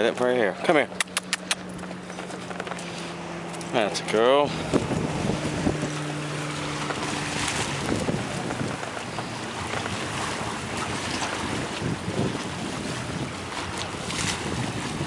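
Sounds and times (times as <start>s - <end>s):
steady low hum: 0.5s - 14.0s
wind buffeting microphone: 1.6s - 15.0s
waves washing against rocks: 2.5s - 15.0s.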